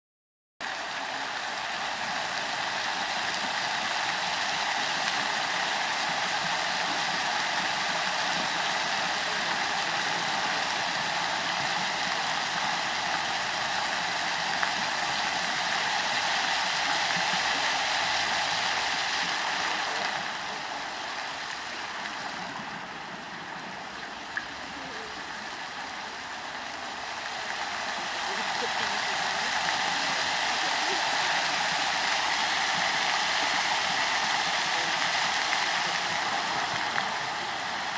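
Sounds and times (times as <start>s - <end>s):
fountain water splashing: 0.6s - 37.9s.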